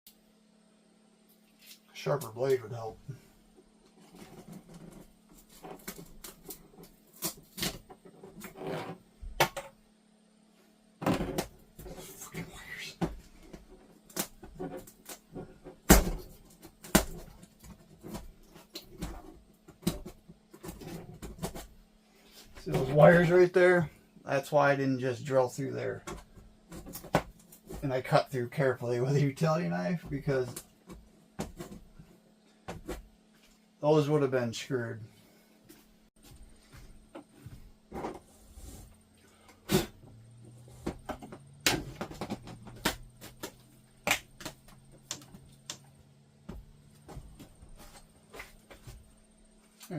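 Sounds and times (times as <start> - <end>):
low steady hum: 0.1 - 49.9.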